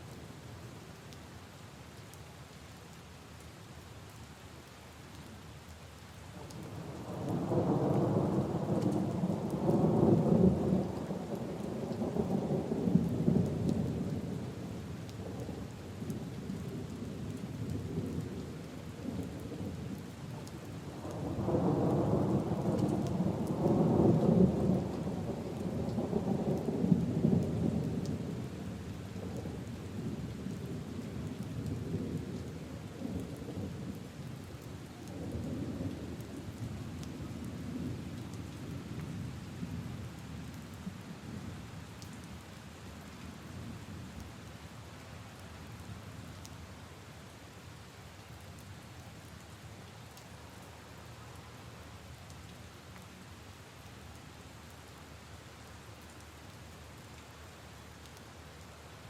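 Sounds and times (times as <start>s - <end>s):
steady rain on leaves and puddles: 0.0s - 59.0s.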